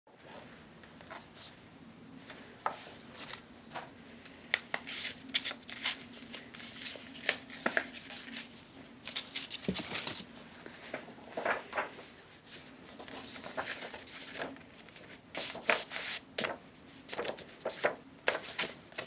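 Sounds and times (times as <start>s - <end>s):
faint steady hum: 0.1s - 19.0s
paper crinkling and folding: 0.2s - 19.0s.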